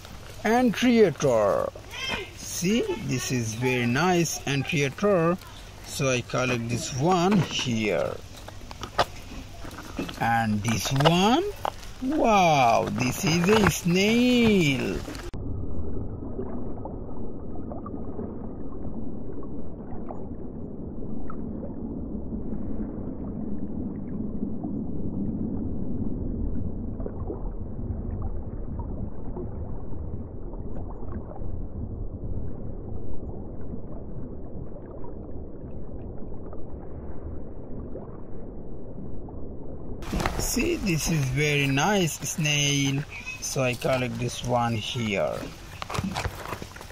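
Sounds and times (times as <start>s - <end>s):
muffled rushing water: 0.0s - 46.9s.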